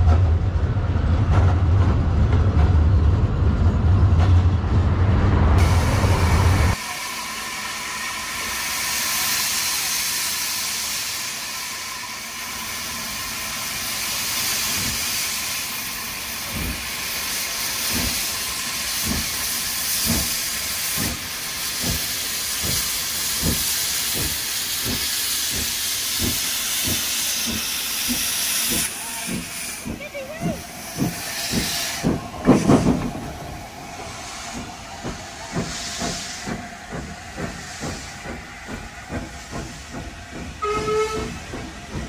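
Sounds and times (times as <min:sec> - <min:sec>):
steam locomotive exhaust beats: 0:05.5 - 0:42.0
steam hissing from locomotive: 0:05.6 - 0:42.0.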